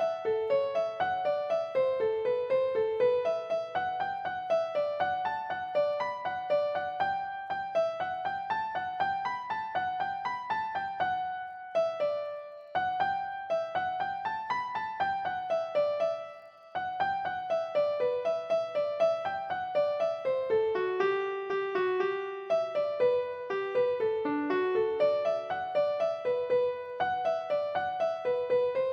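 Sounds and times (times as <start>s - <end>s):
gentle piano melody: 0.0s - 28.9s.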